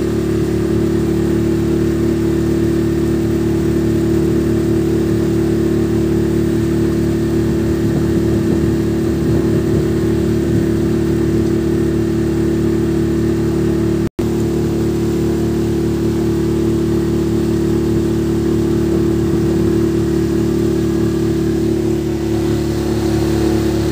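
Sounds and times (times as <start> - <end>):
motorboat engine drone: 0.0 - 23.9.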